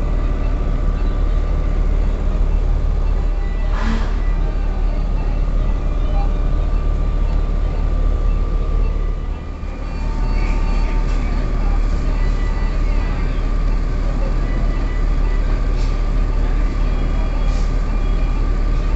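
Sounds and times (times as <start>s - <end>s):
thin steady whine: 0.0s - 15.5s.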